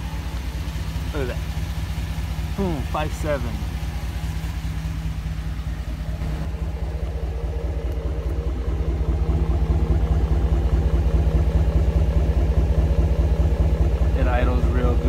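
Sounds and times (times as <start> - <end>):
engine exhaust burble idling: 0.0 - 15.0.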